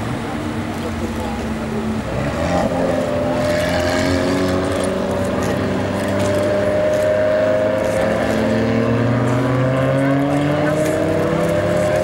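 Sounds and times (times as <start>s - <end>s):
car engine accelerating: 1.1s - 12.0s.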